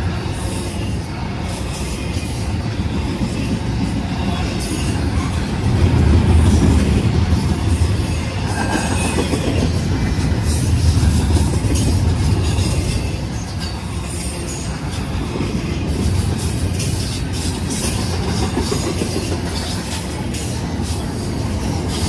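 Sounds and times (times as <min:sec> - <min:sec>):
freight train rumbling: 0:00.0 - 0:22.0
wheels clattering on rails: 0:00.0 - 0:22.0.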